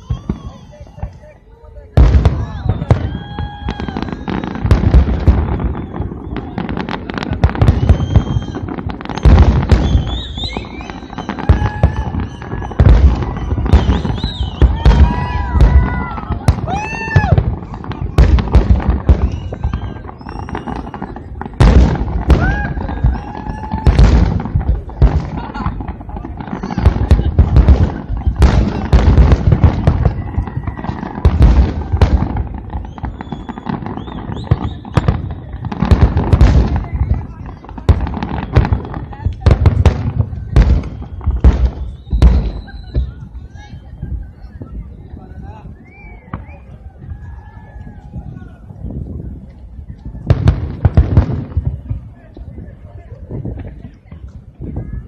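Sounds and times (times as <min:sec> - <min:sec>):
fireworks booming: 0:00.0 - 0:55.0
fireworks crackling: 0:00.0 - 0:55.0.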